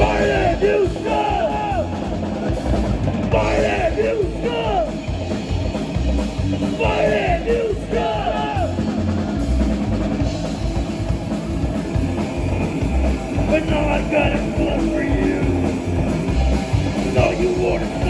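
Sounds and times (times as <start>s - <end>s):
drum kit: 0.0s - 18.0s
rock band playing: 0.0s - 18.0s.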